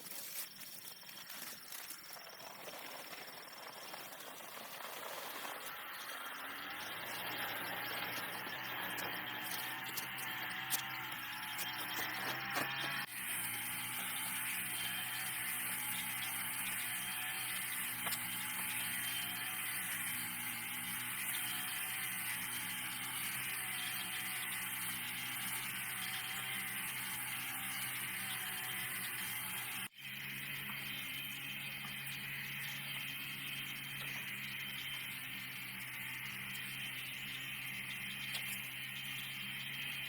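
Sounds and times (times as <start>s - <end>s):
motor hum: 3.0s - 40.0s.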